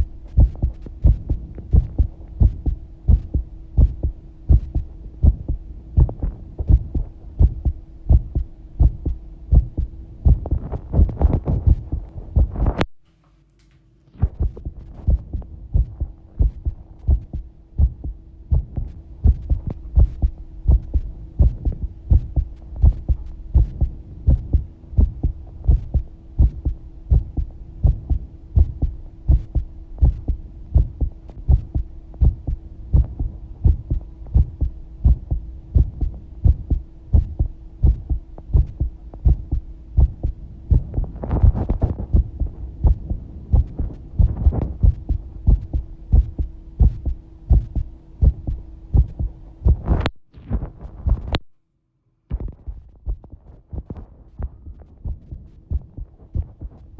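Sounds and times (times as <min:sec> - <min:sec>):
heartbeat thumps: 0:00.0 - 0:12.9, 0:14.2 - 0:51.5, 0:52.3 - 0:56.9
constant hum: 0:00.0 - 0:56.9.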